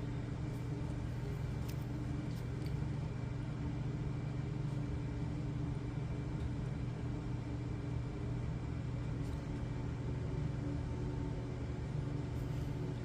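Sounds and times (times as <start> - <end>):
low background hum with tones: 0.0 - 13.0.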